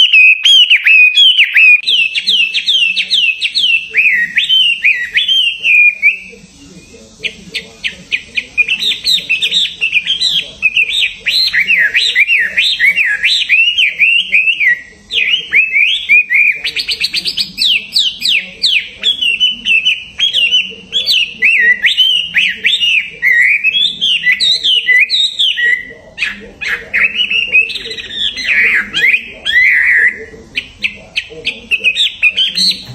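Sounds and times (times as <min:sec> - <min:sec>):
songbird singing: 0:00.0 - 0:32.9.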